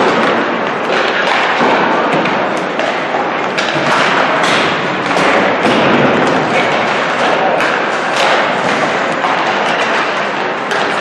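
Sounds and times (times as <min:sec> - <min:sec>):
ice rink din: 0:00.0 - 0:11.0.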